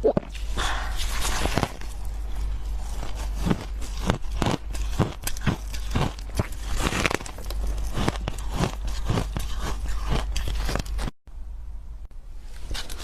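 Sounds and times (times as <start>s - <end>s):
frost being chewed crunching: 0.4s - 11.2s.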